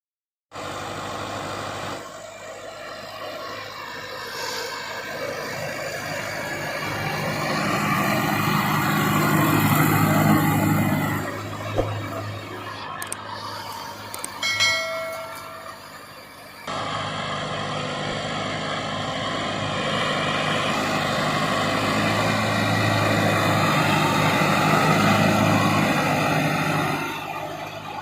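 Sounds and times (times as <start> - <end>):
tractor diesel engine running: 0.5 - 28.0.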